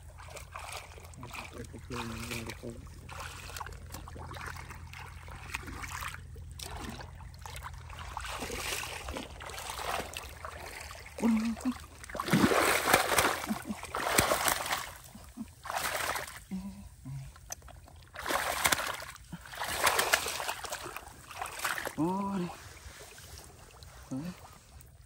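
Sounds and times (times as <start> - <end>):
splashing in muddy water: 0.0 - 25.0.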